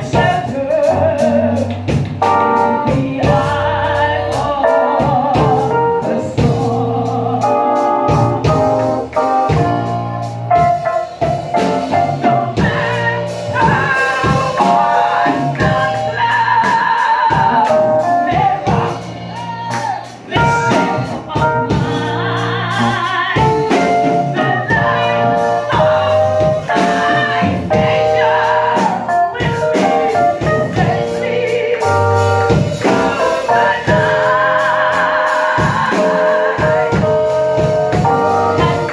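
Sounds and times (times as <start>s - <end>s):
woman singing gospel: 0.0s - 8.8s, 11.3s - 38.9s.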